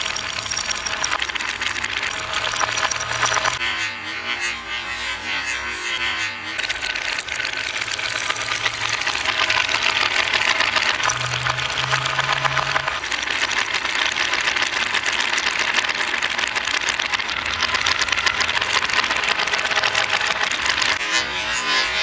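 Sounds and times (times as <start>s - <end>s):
marbles clattering on wood: 0.0s - 3.6s, 6.6s - 21.2s.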